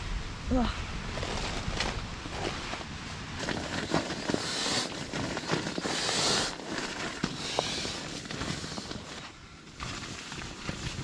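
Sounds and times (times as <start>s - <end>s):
nylon fabric rustling: 1.0s - 11.0s.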